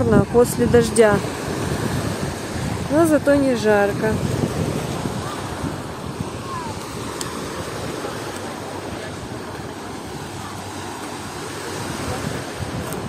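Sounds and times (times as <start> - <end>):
waves washing onto shore: 0.0 - 13.0
wind buffeting microphone: 0.0 - 13.0.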